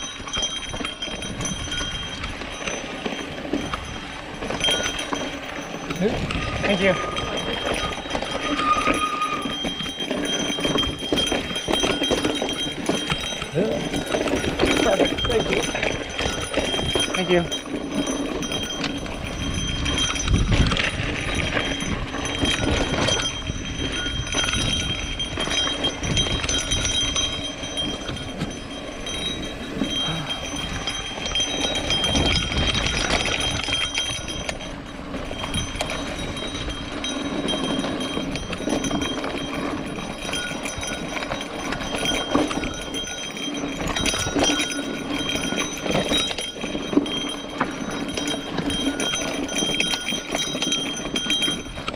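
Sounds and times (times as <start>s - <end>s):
bike rattling over bumps: 0.0s - 51.9s.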